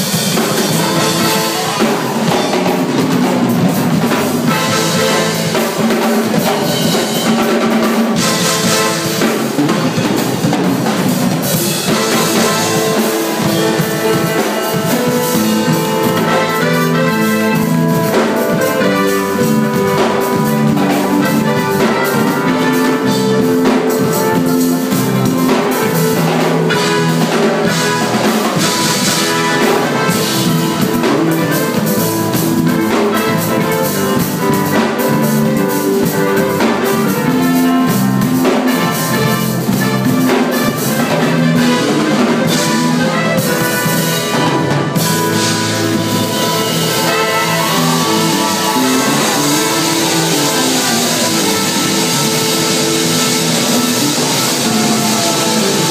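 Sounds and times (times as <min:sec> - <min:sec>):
drum kit beat: 0:00.0 - 0:55.9
live band music: 0:00.0 - 0:55.9.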